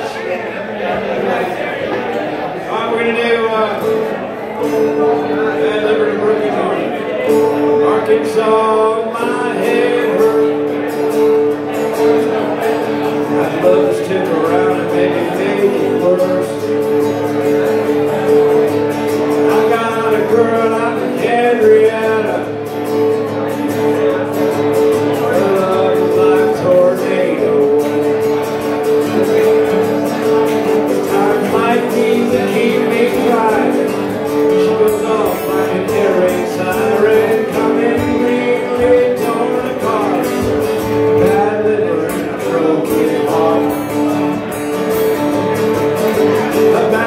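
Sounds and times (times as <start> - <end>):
acoustic guitar: 0.0 - 47.0
man singing: 2.6 - 47.0.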